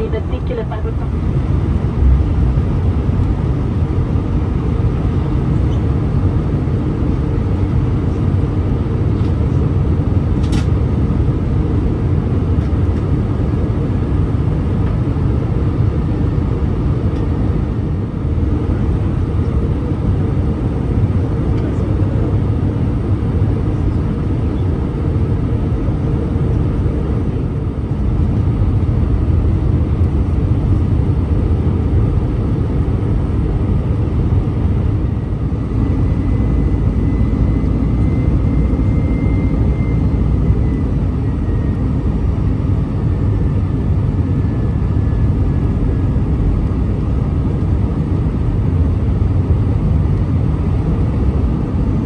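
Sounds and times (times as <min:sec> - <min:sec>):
airliner engines and airflow rumble: 0:00.0 - 0:52.0.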